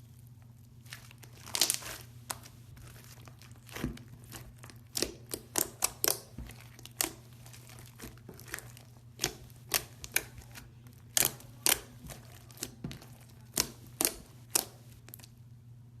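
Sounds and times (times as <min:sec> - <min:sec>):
steady low hum: 0:00.0 - 0:16.0
slime squishing wet pops: 0:00.9 - 0:15.3.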